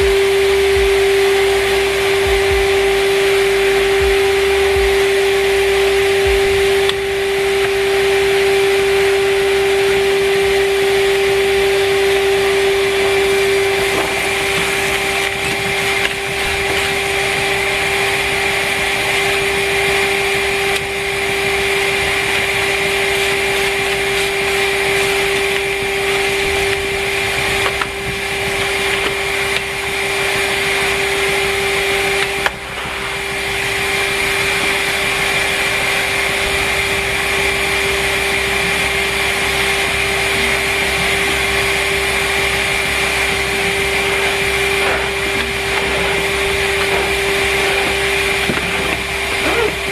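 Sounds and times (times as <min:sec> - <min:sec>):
vacuum cleaner motor whine: 0:00.0 - 0:49.9.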